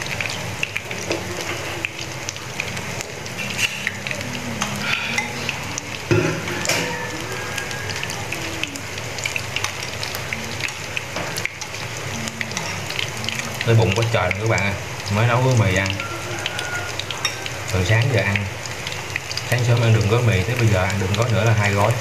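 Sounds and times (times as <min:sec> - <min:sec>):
fritters sizzling in hot oil: 0:00.0 - 0:22.0.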